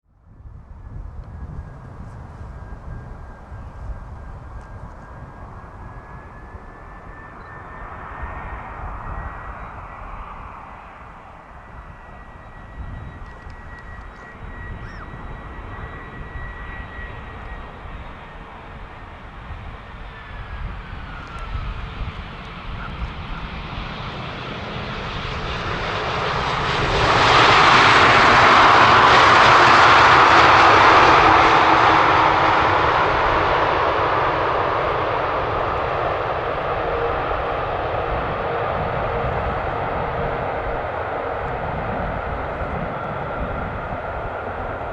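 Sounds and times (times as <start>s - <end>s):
airliner jet engines flying past: 0.1s - 44.9s.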